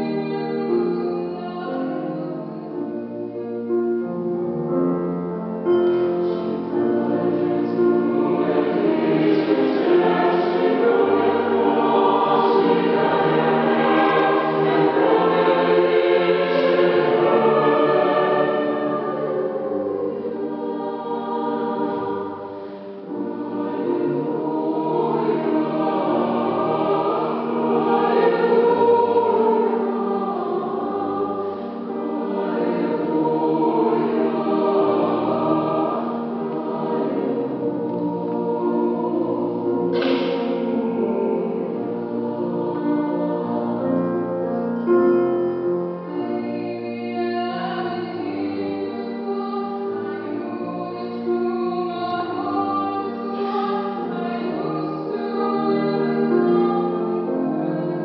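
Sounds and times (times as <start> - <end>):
choir singing in parts: 0.0 - 58.0.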